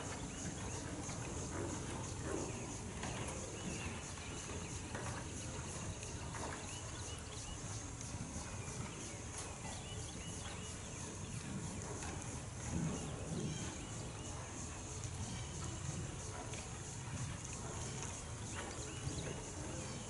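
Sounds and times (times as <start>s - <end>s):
horse hoofbeats on sand: 0.0s - 20.0s.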